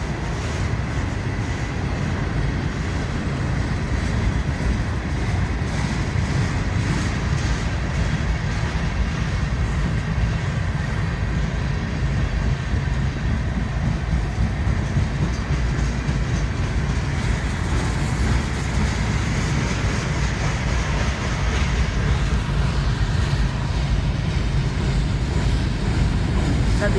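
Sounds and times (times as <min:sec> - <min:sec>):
freight train rolling on rails: 0:00.0 - 0:26.9.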